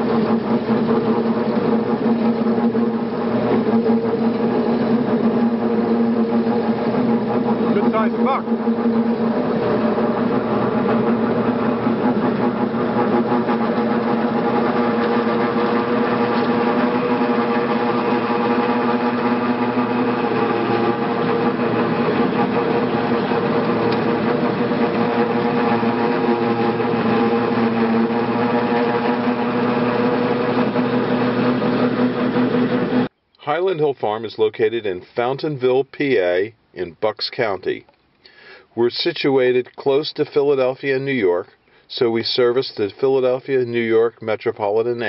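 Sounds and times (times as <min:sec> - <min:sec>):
tractor engine droning: 0:00.0 - 0:36.5.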